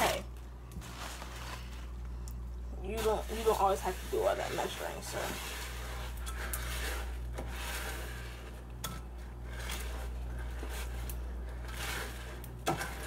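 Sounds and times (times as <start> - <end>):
steady low hum: 0.0 - 13.0
spoon stirring sticky mixture: 2.3 - 13.0.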